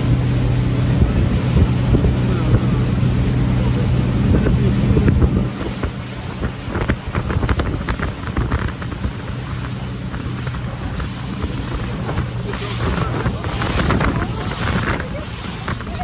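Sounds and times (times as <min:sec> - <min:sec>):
boat motor humming: 0:00.0 - 0:16.0
water slapping against hull: 0:00.0 - 0:16.0
wind buffeting microphone: 0:00.0 - 0:16.0.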